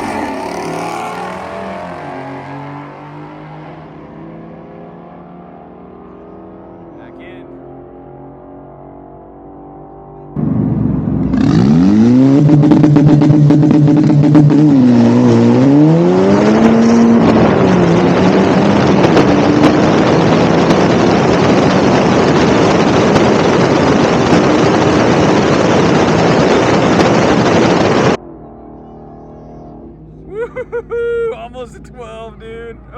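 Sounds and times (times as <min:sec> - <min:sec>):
car engine revving at full throttle: 0:00.0 - 0:30.7.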